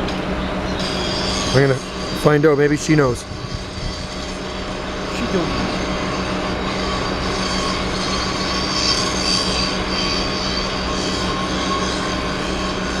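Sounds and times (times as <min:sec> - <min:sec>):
high-pitched machinery whine: 0:00.0 - 0:13.0
machinery low hum: 0:00.0 - 0:13.0.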